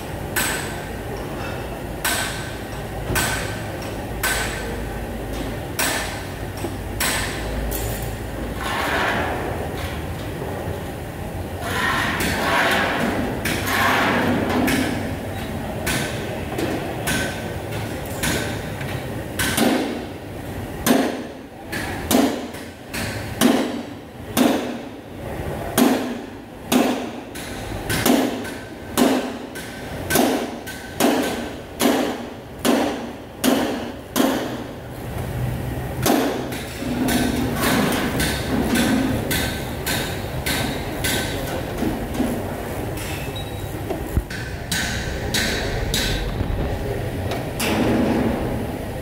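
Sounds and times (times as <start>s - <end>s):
workshop clatter: 0.0s - 49.0s.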